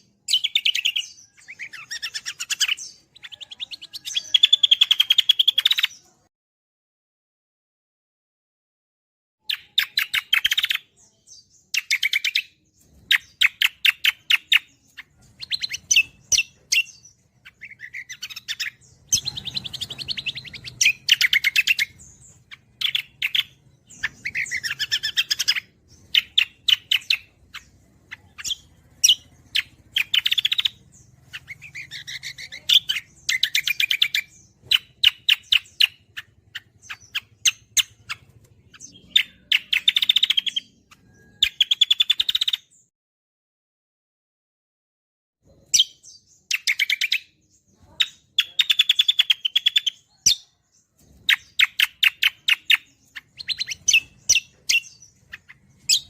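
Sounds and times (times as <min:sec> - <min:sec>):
songbird chirps and trills: 0:00.0 - 0:06.3, 0:09.4 - 0:42.9, 0:45.4 - 0:56.0.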